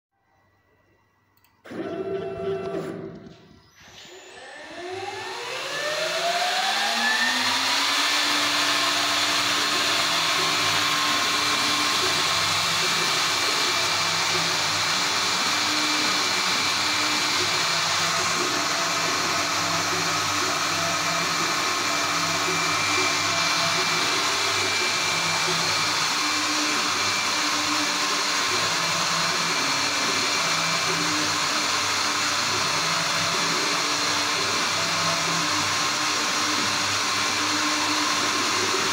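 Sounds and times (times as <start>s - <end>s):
router spindle motor whining: 1.7s - 38.9s.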